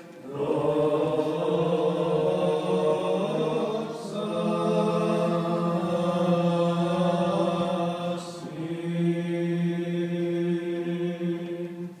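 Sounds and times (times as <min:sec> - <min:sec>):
voices chanting held notes: 0:00.0 - 0:12.0.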